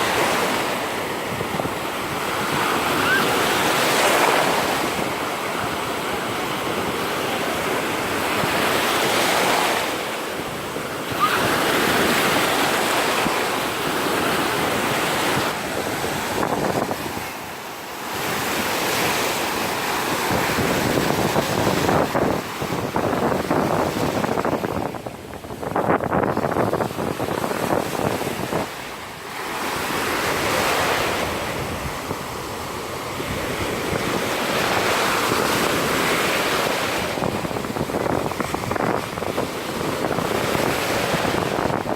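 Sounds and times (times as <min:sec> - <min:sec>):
surf breaking on sandy beach: 0:00.0 - 0:41.9
wind on microphone: 0:00.0 - 0:41.9.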